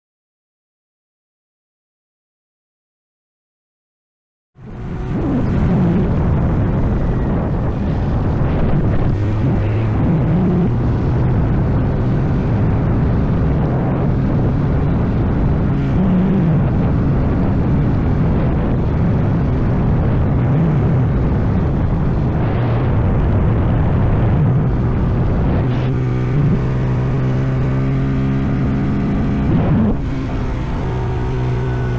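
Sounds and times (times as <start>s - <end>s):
motorcycle engine running: 4.6s - 31.9s
steady rush of noise: 4.6s - 31.9s.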